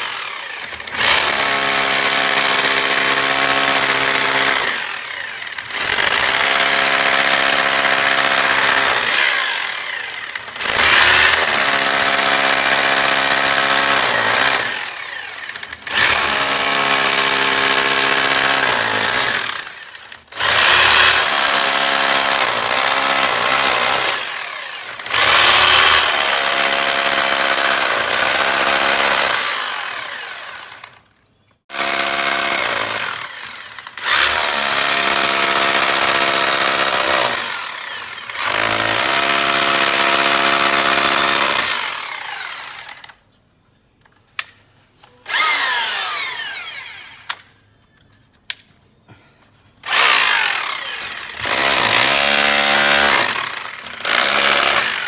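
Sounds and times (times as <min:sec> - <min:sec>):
electric drill boring into wall: 0:00.0 - 0:31.0, 0:31.7 - 0:43.1, 0:45.3 - 0:47.4, 0:49.8 - 0:55.0.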